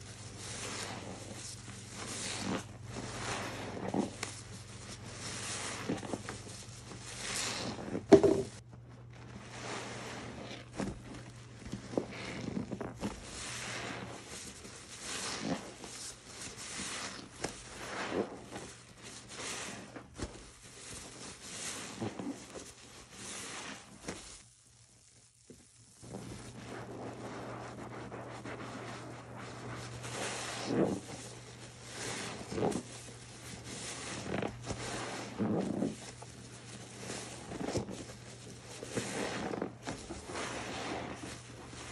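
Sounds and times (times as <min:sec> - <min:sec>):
sponge squishing in soapy water: 0:00.0 - 0:41.9.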